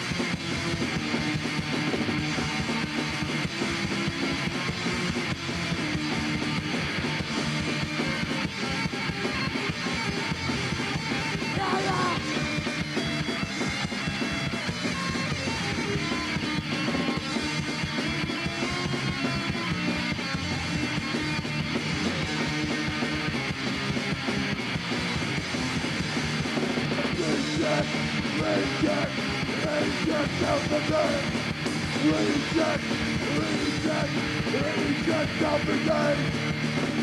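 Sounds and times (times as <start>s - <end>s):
punk rock band playing: 0.0s - 37.0s.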